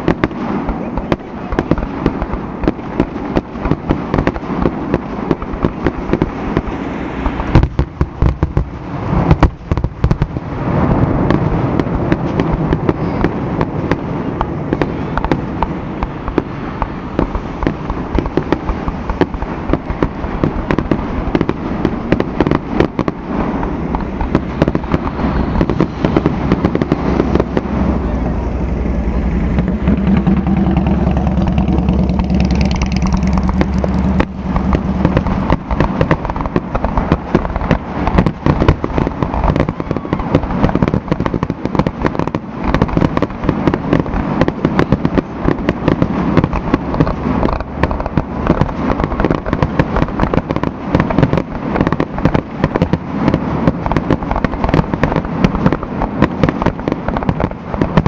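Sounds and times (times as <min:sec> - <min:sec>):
steady low hum: 0:00.0 - 0:56.4
fireworks bangs and crackles: 0:00.0 - 0:58.0.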